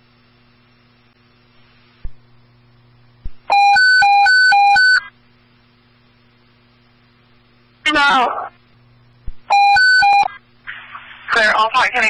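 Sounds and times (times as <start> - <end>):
low radio channel hum: 0.0 - 3.5, 5.0 - 12.0.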